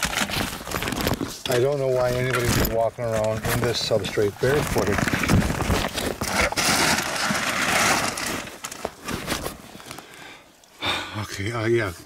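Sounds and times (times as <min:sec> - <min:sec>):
gear rustling and clattering: 0:00.0 - 0:10.0.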